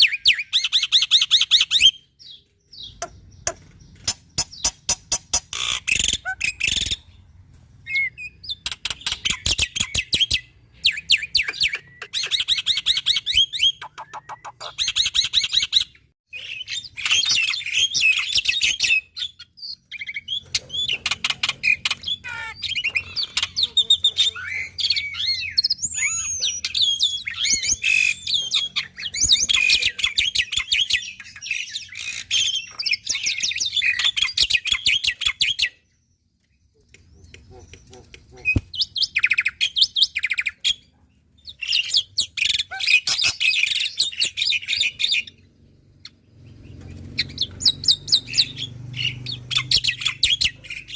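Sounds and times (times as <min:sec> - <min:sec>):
starling singing: 0:00.0 - 0:07.2, 0:07.9 - 0:35.8, 0:37.1 - 0:50.9.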